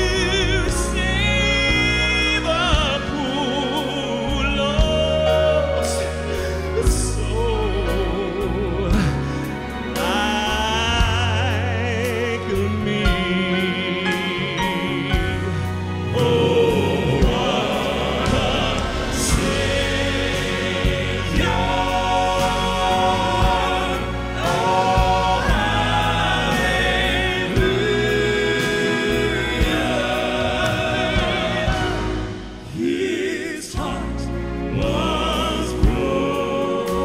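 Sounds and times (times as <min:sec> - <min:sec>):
male quartet singing gospel: 0:00.0 - 0:37.0
piano and band accompaniment: 0:00.0 - 0:37.0.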